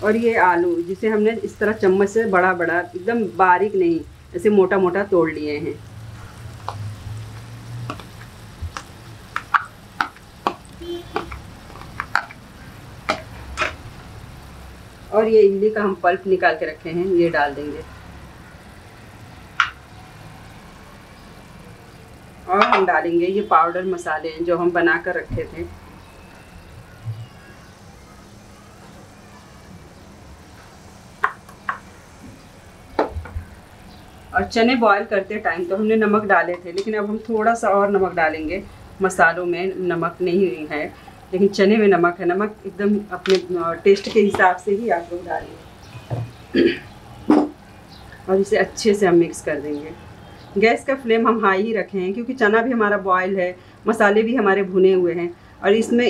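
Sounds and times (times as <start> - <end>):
pan sizzling: 0.0 - 49.4.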